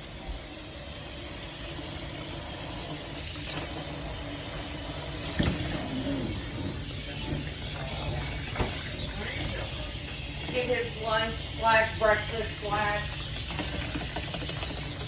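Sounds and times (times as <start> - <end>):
water filling a bowl: 0.0 - 15.0.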